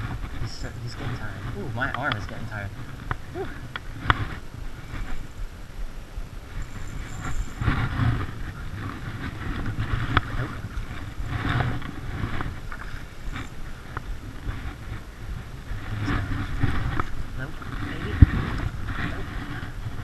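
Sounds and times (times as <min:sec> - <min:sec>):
rain jacket rubbing microphone: 0:00.0 - 0:20.0.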